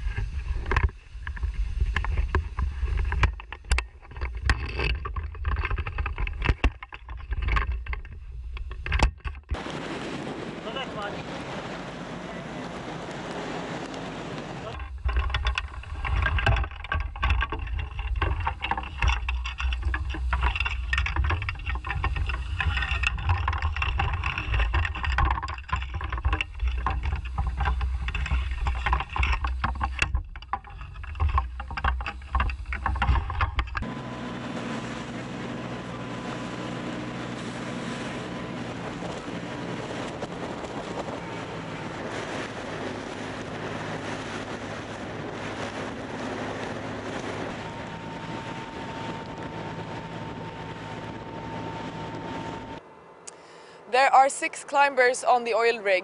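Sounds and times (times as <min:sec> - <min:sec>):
wind buffeting microphone: 0:00.0 - 0:52.8
boat engine drone: 0:00.0 - 0:56.0.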